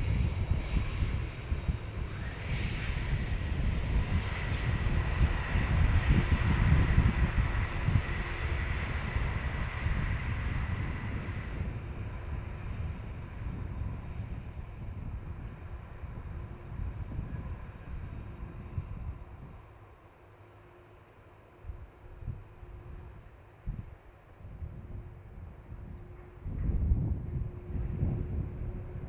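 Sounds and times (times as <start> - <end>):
jet fan whine: 0.0 - 29.0.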